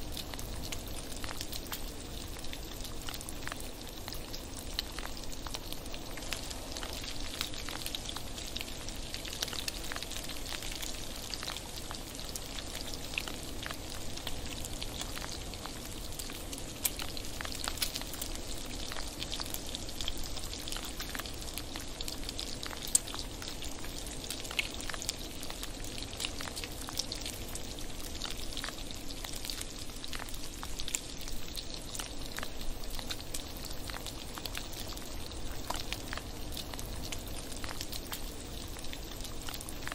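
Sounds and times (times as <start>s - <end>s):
bacon sizzling in a frying pan: 0.0s - 39.9s.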